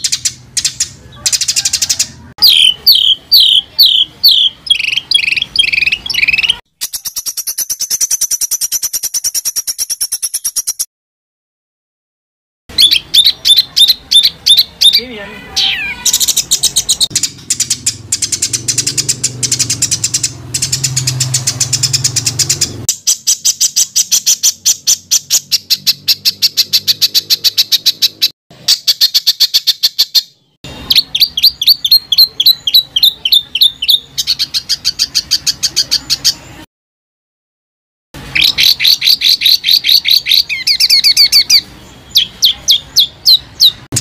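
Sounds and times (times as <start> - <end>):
songbird singing rapid high notes: 0.0 - 10.9, 12.7 - 36.6, 38.2 - 44.0.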